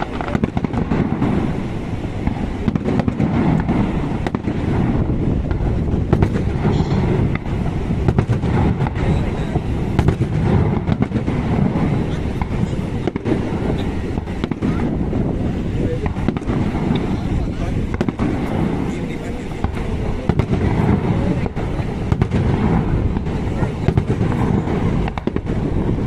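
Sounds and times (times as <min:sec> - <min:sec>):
fireworks popping and crackling: 0:00.0 - 0:26.0
low rumble: 0:00.0 - 0:26.0.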